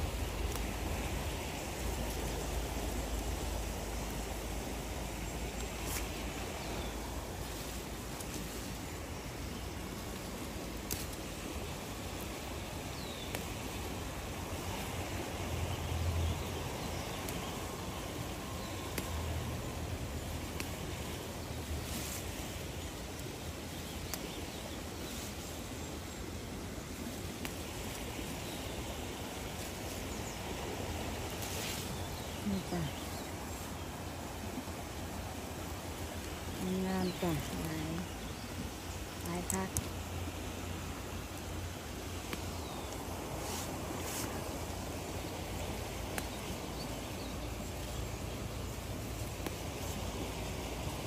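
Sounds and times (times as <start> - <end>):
rushing outdoor noise: 0.0 - 51.0.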